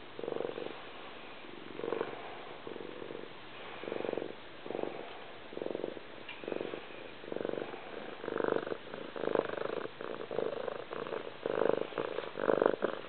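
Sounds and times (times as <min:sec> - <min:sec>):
cat purring loudly: 0:00.0 - 0:13.0.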